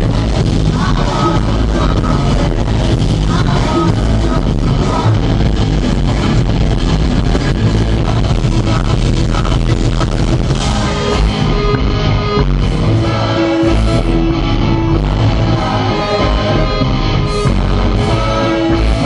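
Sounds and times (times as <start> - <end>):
live rock band playing: 0.0 - 19.0
person singing into microphone: 0.0 - 19.0.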